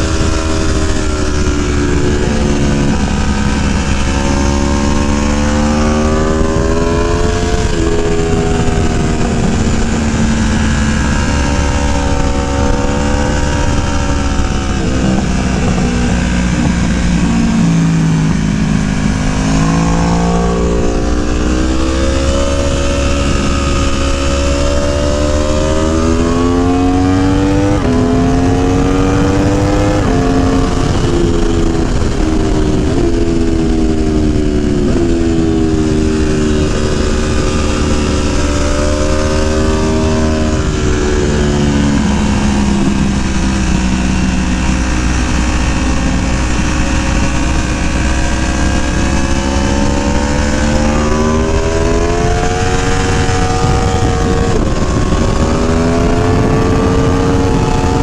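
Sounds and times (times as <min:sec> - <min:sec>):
motorcycle engine accelerating: 0:00.0 - 0:58.0
wind rumble on microphone: 0:00.0 - 0:58.0.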